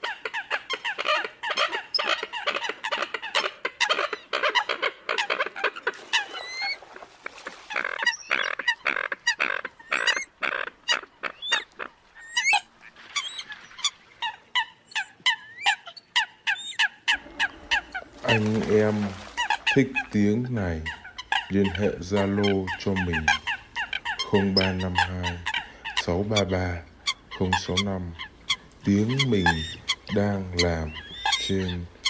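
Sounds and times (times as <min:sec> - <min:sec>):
coots calling: 0:00.0 - 0:32.0.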